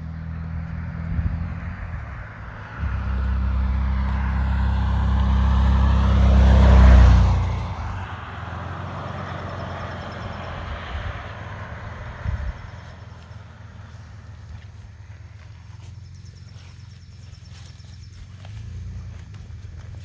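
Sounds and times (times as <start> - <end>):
truck exhaust driving past: 0.0 - 20.0.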